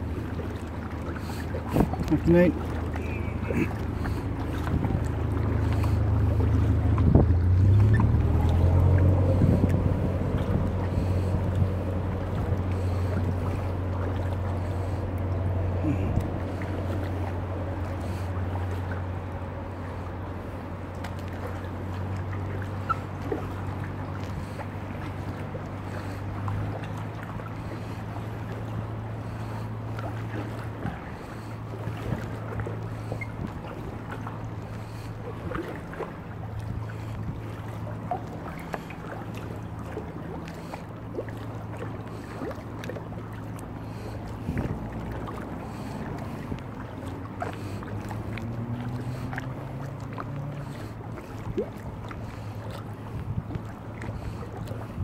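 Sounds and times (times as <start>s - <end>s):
paddle splashing water: 0.0s - 55.0s.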